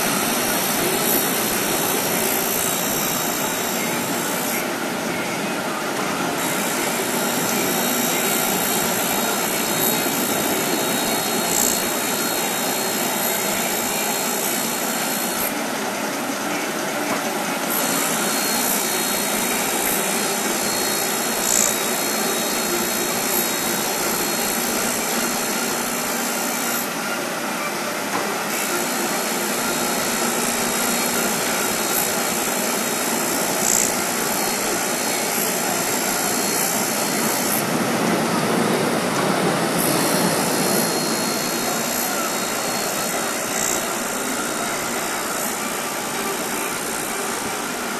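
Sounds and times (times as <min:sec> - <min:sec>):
grinding wheel on knife blade: 0:00.0 - 0:15.6, 0:17.5 - 0:27.0, 0:28.5 - 0:37.8, 0:39.6 - 0:47.9.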